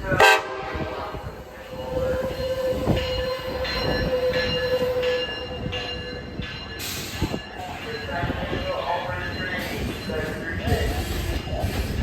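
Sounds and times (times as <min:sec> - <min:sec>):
rumble of train cars: 0:00.0 - 0:12.0
train wheels squealing on rail: 0:01.0 - 0:12.0.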